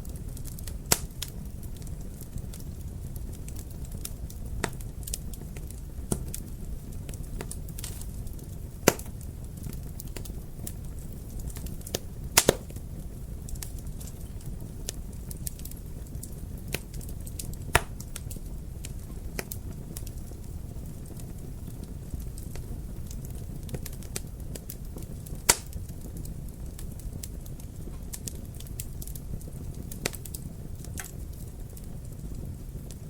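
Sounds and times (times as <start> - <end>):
fire burning low rumble: 0.0 - 33.0
fire pops and snaps: 0.0 - 33.0.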